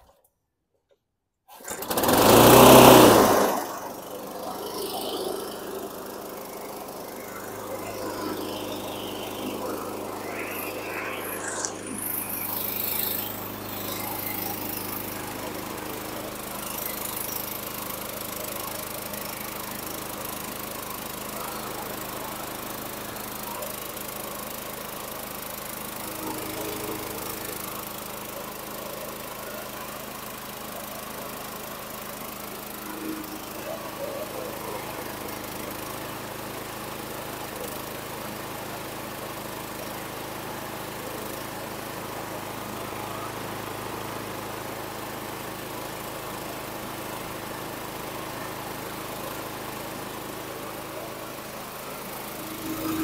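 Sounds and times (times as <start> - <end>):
lawn mower engine running: 1.5 - 53.0.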